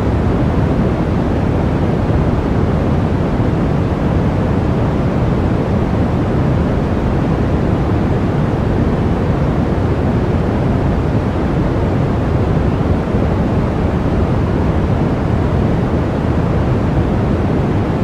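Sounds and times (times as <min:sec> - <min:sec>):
gusting blizzard wind: 0:00.0 - 0:18.0.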